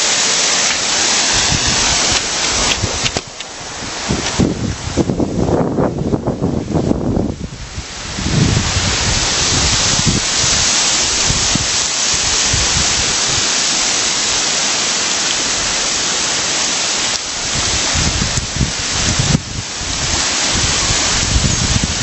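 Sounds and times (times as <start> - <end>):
small waterfall rushing: 0.0 - 22.0
wind buffeting microphone: 0.9 - 14.4, 17.1 - 22.0.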